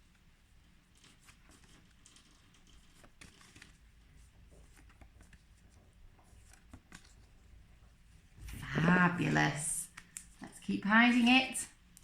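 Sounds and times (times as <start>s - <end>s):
flashcards rustling and clicking: 0.1s - 11.3s.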